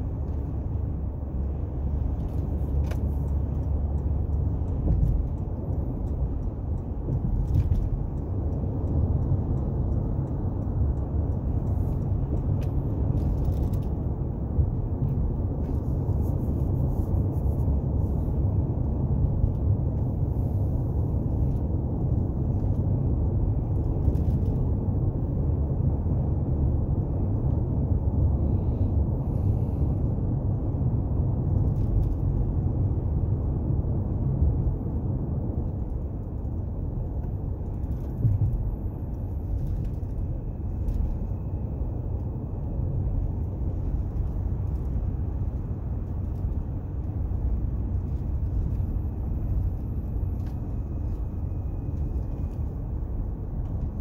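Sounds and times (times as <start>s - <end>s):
car cabin road noise: 0.0s - 54.0s.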